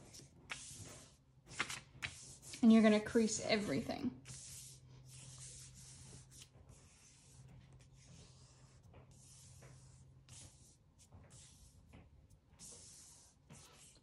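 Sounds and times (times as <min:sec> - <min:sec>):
hands brushing folded paper: 0:00.1 - 0:14.0.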